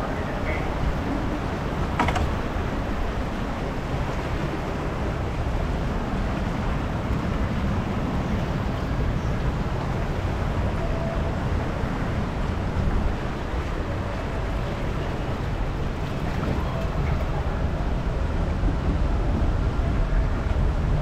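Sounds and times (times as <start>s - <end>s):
water rushing and churning: 0.0s - 21.0s.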